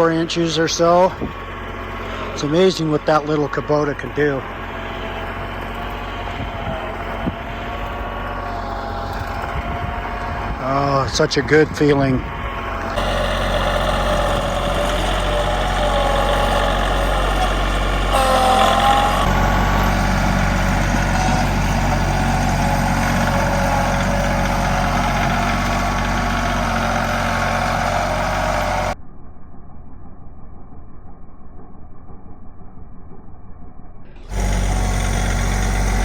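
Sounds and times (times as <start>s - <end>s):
tractor engine running: 0.0s - 29.0s, 34.2s - 36.0s
engine whine: 0.0s - 36.0s.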